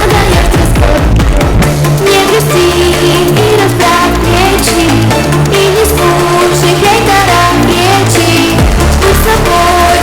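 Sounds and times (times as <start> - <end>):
loud music with heavy bass: 0.0 - 10.0.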